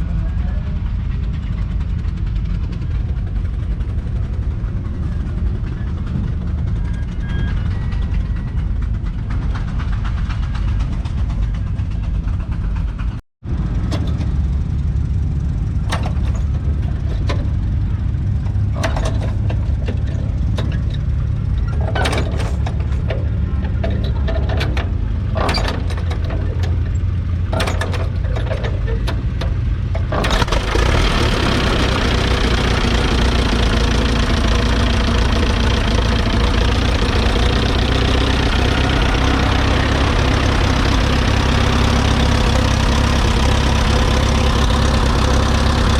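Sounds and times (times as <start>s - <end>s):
petrol engine running: 0.0s - 45.9s.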